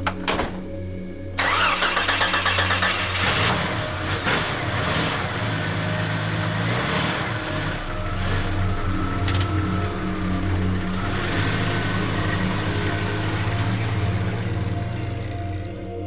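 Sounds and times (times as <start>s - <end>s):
vehicle engine starting and running: 0.0s - 16.0s.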